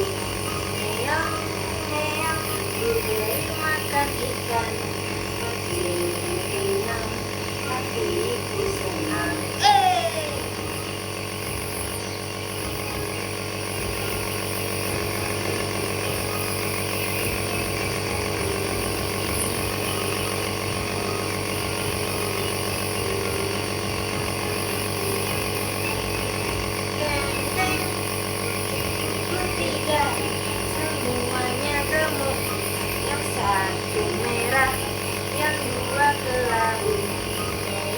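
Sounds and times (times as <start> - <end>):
nebulizer compressor humming: 0.0 - 37.9.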